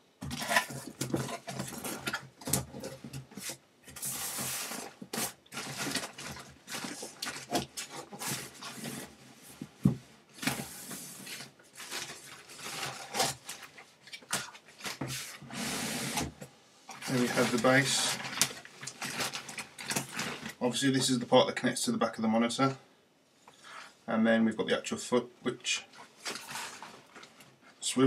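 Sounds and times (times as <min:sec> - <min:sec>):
cardboard and plastic wrap rustling: 0:00.2 - 0:21.3, 0:25.9 - 0:27.7.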